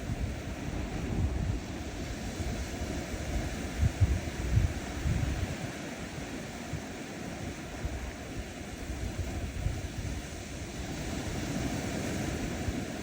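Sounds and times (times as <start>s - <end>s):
waves washing onto shore: 0.0s - 13.0s
wind rumble on microphone: 0.0s - 13.0s.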